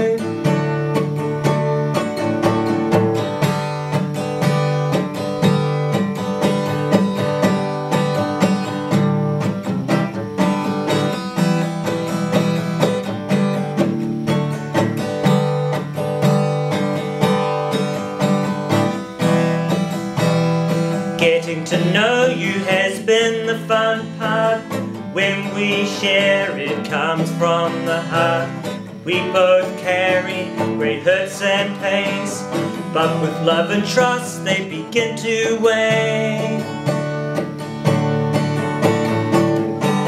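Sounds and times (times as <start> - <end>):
acoustic guitar strumming chords: 0.0 - 40.0.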